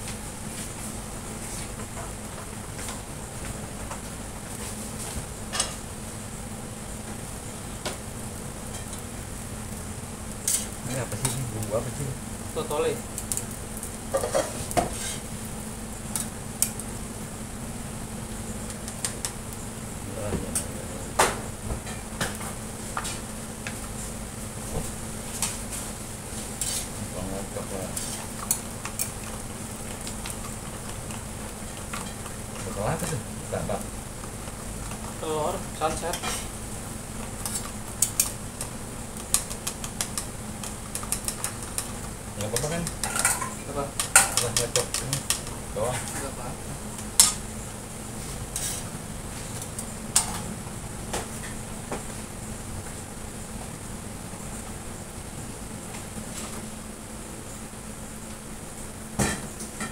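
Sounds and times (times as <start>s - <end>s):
rice sizzling in a wok: 0.0s - 59.9s.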